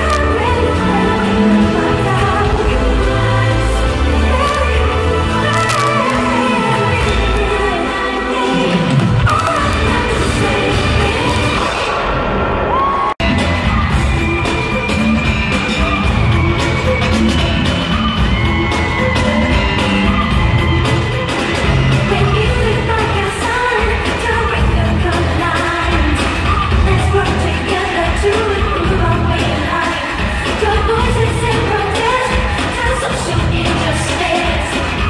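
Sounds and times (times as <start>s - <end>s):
live pop music with singing: 0.0s - 35.0s.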